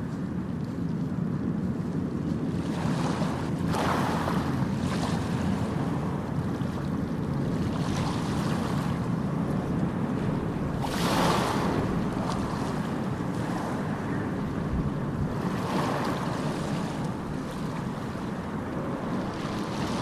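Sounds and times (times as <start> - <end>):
wave breaking and washing in: 2.1 - 20.0
ocean waves rushing: 2.6 - 20.0.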